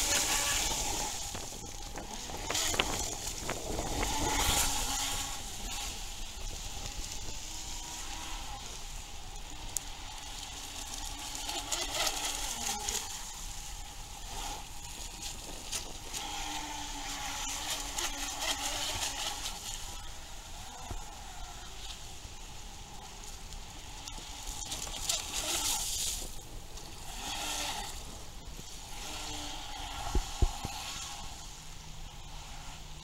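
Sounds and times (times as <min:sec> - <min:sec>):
model motor whine: 0:00.0 - 0:33.0
steady hiss with crackles: 0:00.0 - 0:33.0.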